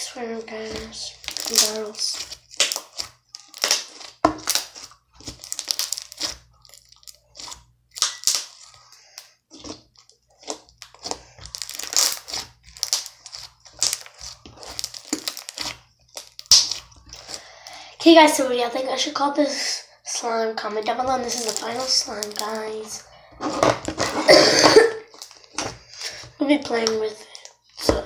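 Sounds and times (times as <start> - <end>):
slime squelching and popping: 0.0 - 18.4, 20.7 - 28.0.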